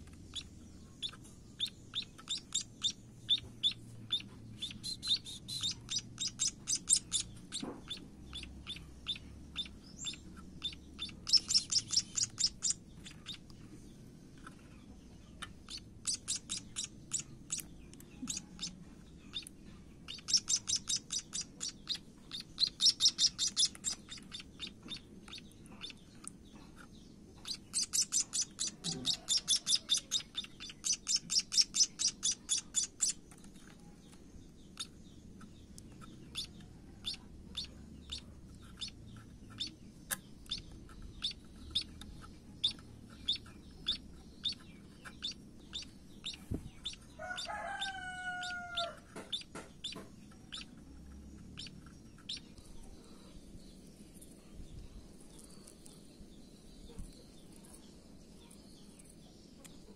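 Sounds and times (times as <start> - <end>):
fledgling begging chirps: 0.0 - 13.7, 15.3 - 53.3.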